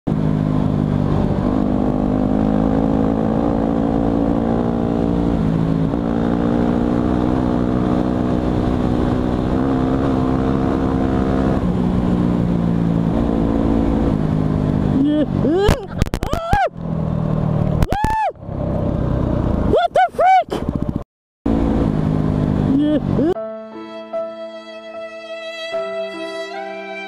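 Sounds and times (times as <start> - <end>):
motorcycle engine running: 0.1 - 19.8, 20.4 - 23.4.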